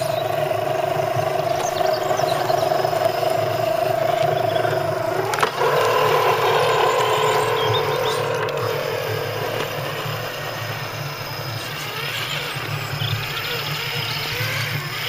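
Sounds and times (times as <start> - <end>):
toy truck drivetrain whining: 0.0 - 15.0.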